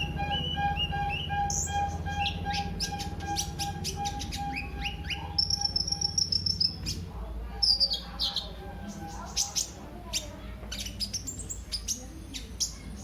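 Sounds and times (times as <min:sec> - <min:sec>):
sunbird chirping and trilling: 0:00.0 - 0:13.0.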